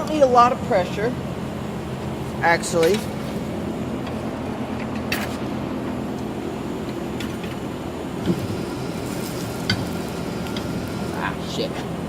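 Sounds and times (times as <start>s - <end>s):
tire changer motor humming: 0.0s - 12.0s.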